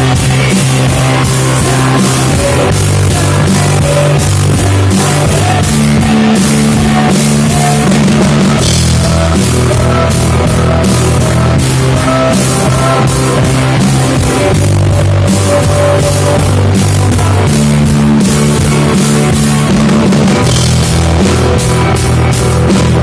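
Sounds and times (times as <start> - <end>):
bass guitar: 0.0 - 23.0
distorted electric guitar: 0.0 - 23.0
drum kit driving beat: 0.0 - 23.0.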